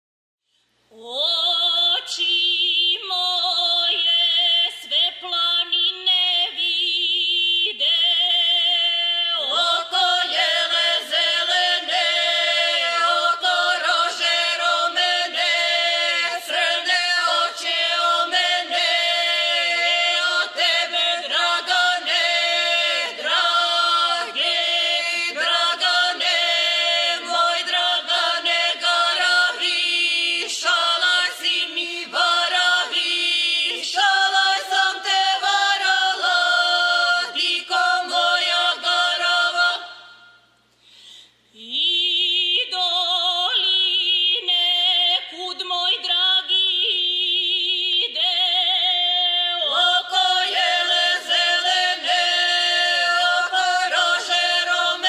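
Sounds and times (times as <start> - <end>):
women's vocal group singing: 0.9 - 40.5, 41.6 - 55.0.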